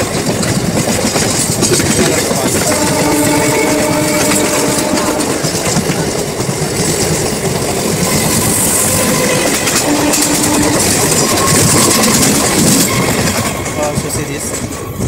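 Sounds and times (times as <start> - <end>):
train wheels rumbling and rattling: 0.0 - 15.0.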